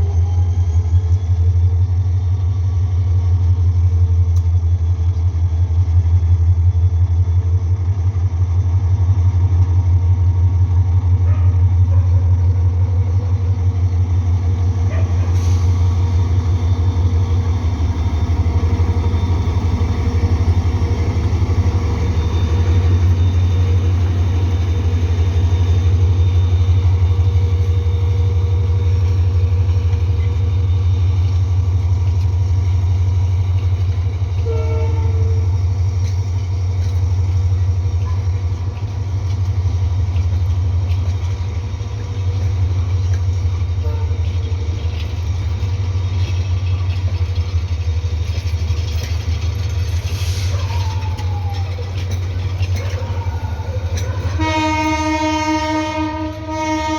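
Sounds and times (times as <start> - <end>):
diesel train low rumble: 0.0 - 56.9.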